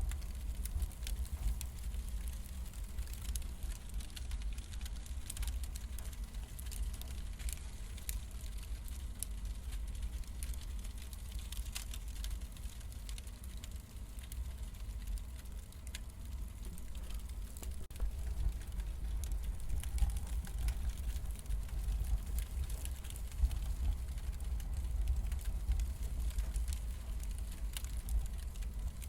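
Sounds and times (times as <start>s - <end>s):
low fire rumble: 0.0s - 29.0s
wood fire pops and crackles: 0.0s - 29.0s.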